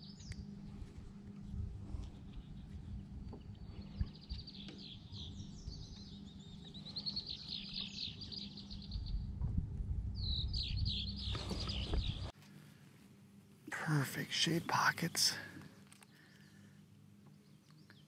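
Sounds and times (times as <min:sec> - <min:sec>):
low steady rumble: 0:00.0 - 0:17.6.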